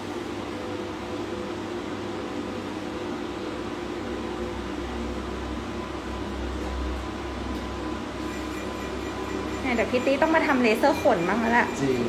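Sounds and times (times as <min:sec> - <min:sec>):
equipment hum and fan hiss: 0:00.0 - 0:12.0.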